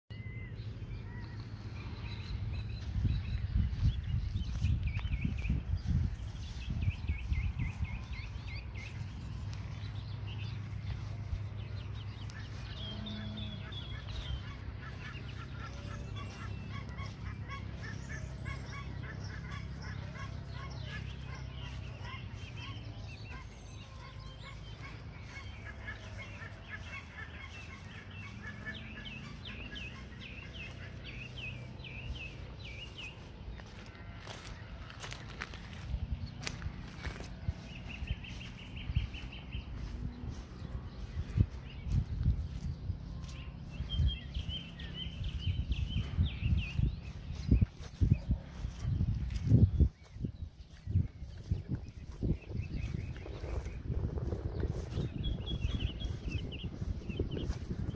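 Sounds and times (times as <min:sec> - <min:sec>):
birds calling: 0:00.1 - 0:57.9
steady low rumble: 0:00.2 - 0:57.9.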